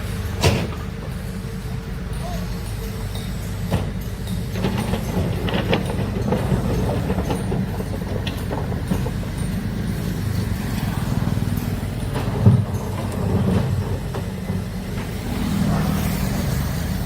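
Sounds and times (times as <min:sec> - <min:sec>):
metallic knocks and clanks: 0:00.0 - 0:01.5, 0:02.2 - 0:16.8
excavator diesel engine rumbling: 0:00.0 - 0:17.0.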